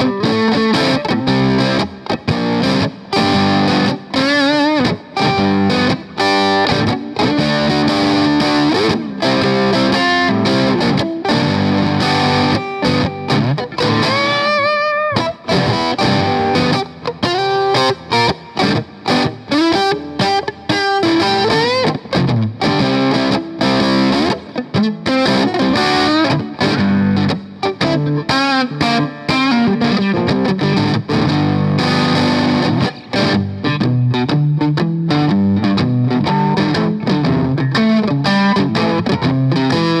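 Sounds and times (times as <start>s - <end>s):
distorted electric guitar licks: 0.0s - 40.0s.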